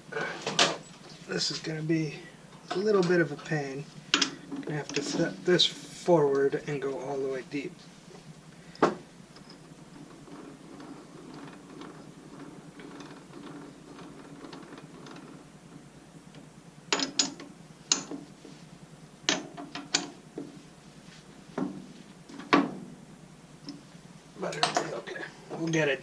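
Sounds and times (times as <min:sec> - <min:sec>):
faint whirring with ticking: 0:00.0 - 0:26.0.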